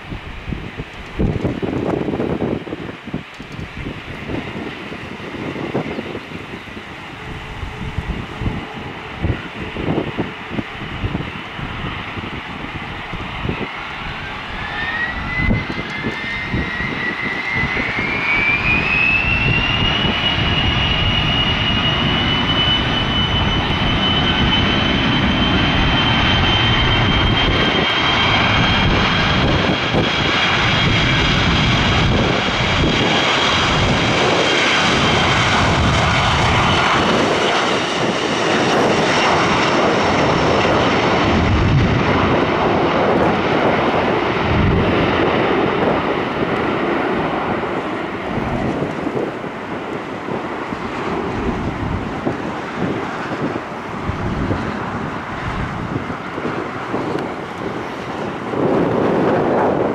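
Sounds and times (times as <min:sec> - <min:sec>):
jet engine whine: 0:00.0 - 0:59.9
loud jet rumble: 0:00.0 - 0:59.9.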